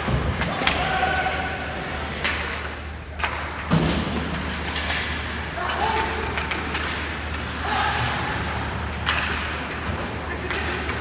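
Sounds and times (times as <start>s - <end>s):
hockey sticks knocking puck: 0.0s - 11.0s.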